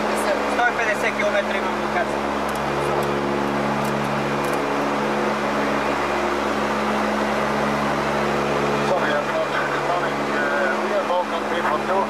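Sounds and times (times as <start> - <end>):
turboprop engines droning in flight: 0.0 - 12.0.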